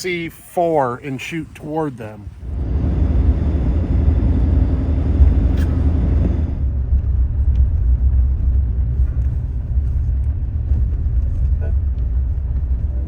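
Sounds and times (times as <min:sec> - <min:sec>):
truck rumbling through snow: 0:02.4 - 0:13.0.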